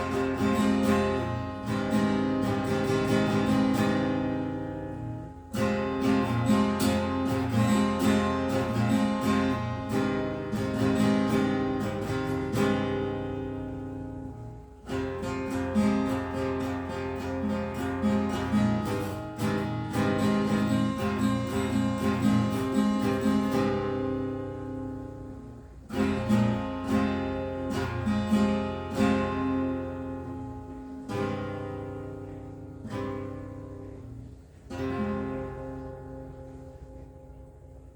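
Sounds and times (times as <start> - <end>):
acoustic guitar strumming: 0.0 - 37.9.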